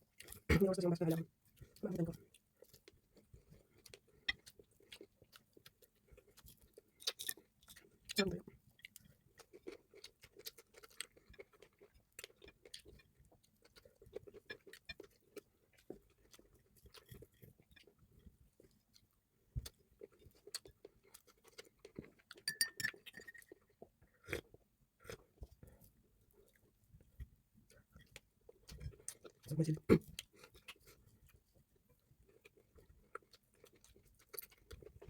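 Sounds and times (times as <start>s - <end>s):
chewing with small clicks: 0.0s - 35.0s.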